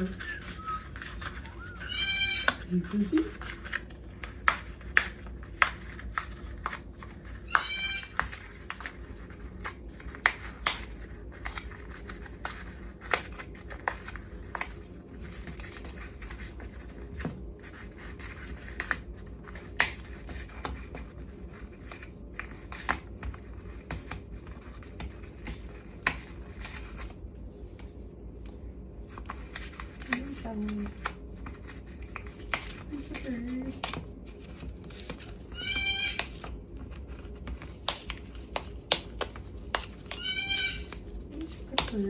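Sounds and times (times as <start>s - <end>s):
parrot chewing and shredding: 0.0s - 42.0s.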